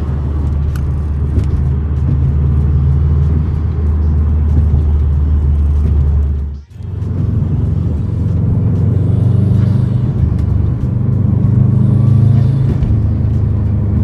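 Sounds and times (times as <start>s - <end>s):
car engine drone: 0.0s - 14.0s
road noise: 0.0s - 14.0s.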